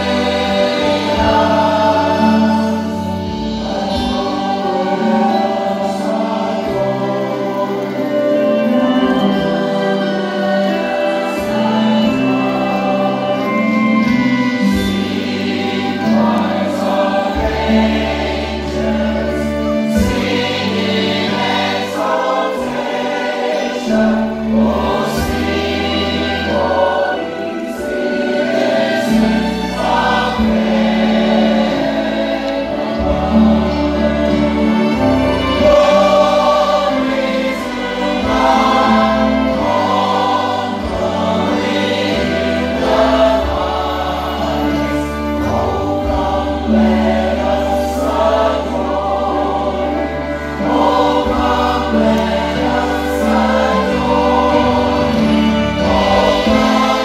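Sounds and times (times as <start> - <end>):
choir singing gospel: 0.0 - 57.0
instrumental accompaniment: 0.0 - 57.0.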